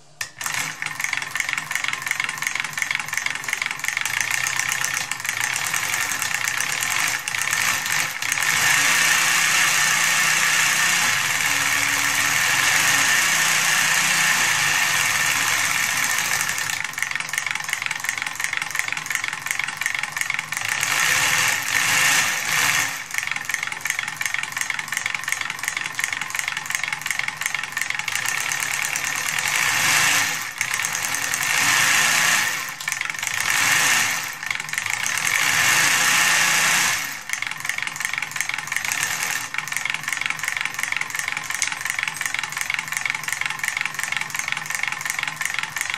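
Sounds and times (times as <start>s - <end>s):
solenoid engine clattering: 0.2s - 45.9s.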